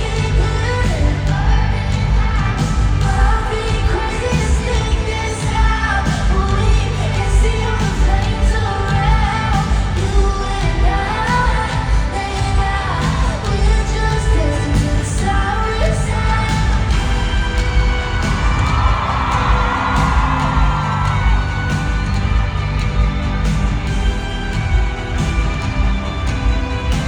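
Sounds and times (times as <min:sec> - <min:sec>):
woman singing: 0:00.0 - 0:22.5
heavy bass backing music: 0:00.0 - 0:27.0.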